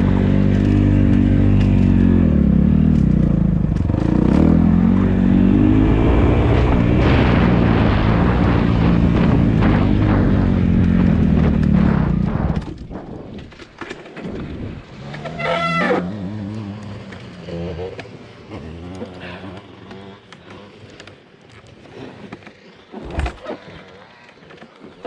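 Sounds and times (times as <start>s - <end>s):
dirt bike engine running: 0.0s - 21.2s.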